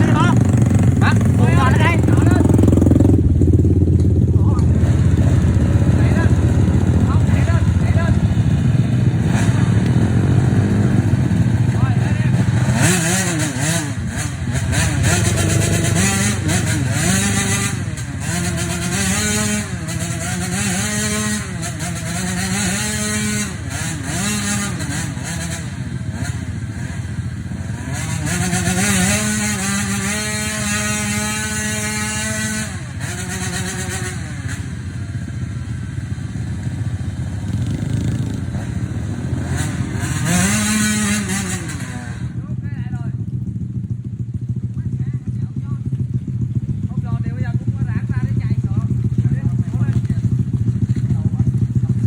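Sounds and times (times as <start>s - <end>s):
vehicle engine revving: 0.0s - 42.4s.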